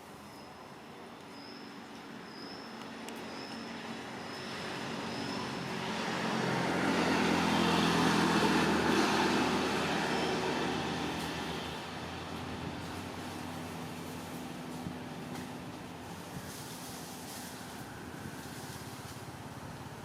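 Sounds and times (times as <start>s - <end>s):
vehicle passing by: 2.9s - 20.0s.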